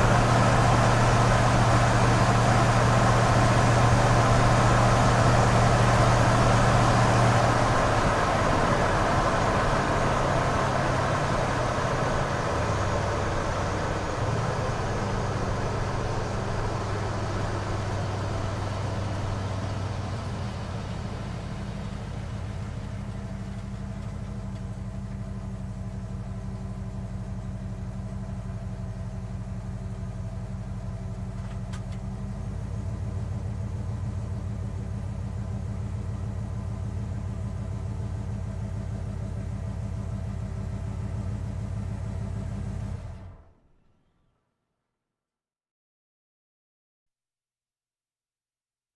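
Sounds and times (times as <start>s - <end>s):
van engine running: 0.0s - 43.8s.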